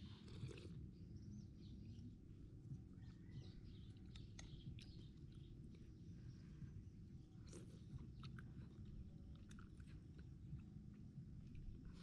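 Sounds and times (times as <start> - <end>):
faint chewing: 0.0 - 0.9, 2.7 - 12.0.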